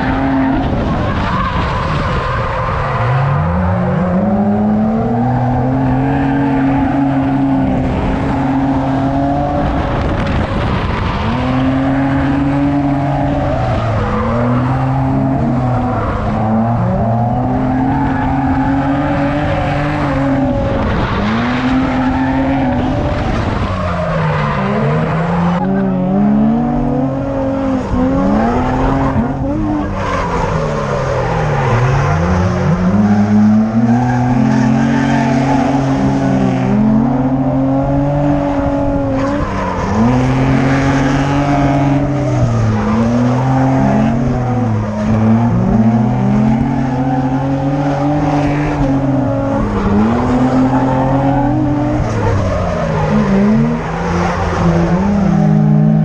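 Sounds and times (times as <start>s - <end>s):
car engine revving: 0.0s - 56.0s
tyres skidding: 0.0s - 56.0s.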